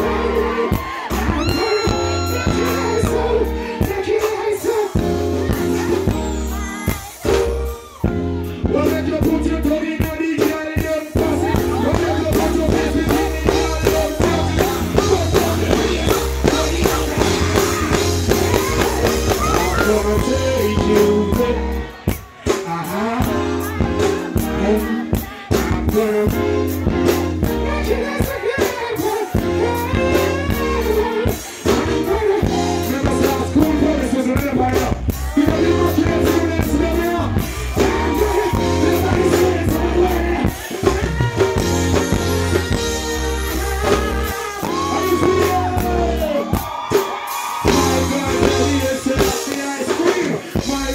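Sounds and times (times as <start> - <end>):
man singing into microphone: 0.0 - 7.1, 8.6 - 46.8, 47.6 - 50.9
reggae backing band: 0.0 - 50.9.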